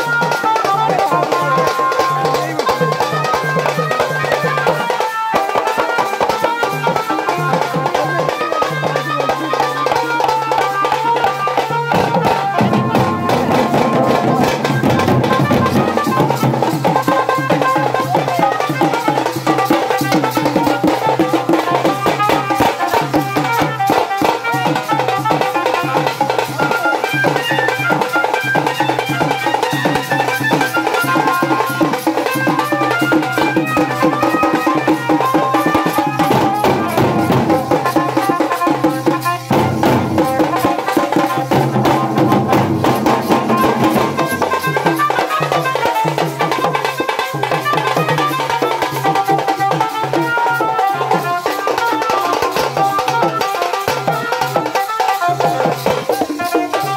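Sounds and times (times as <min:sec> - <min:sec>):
dhol barrel drums: 0:00.0 - 0:56.9
small hand cymbals: 0:00.0 - 0:56.9
tasa drum beaten fast: 0:00.0 - 0:56.9.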